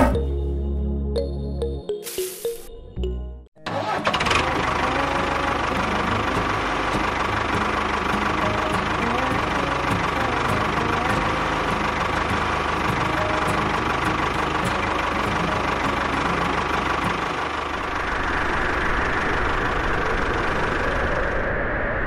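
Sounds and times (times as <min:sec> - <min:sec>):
tractor engine throbbing: 0:03.6 - 0:22.0.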